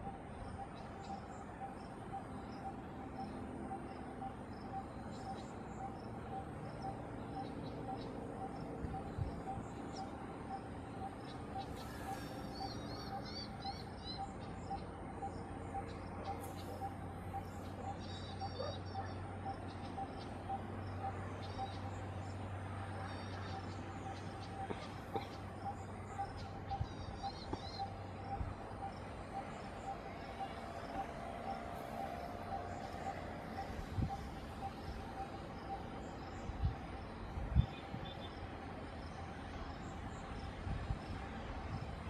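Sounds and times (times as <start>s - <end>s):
small birds chirping: 0.0s - 38.5s.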